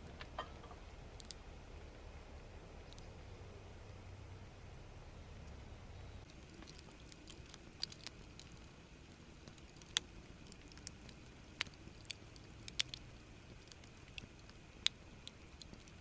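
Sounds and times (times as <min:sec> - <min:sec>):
campfire wood crackling: 0:00.0 - 0:16.0.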